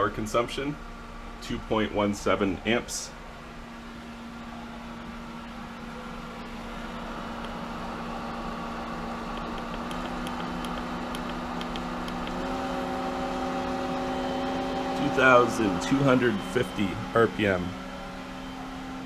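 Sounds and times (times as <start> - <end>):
pool pump humming: 0.0 - 19.0.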